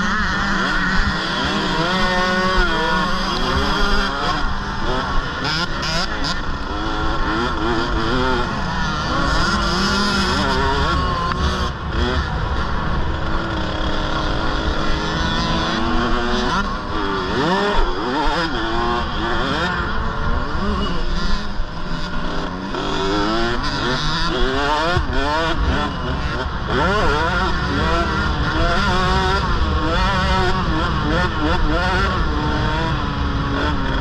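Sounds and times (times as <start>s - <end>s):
two-stroke dirt bikes revving: 0.0s - 34.0s.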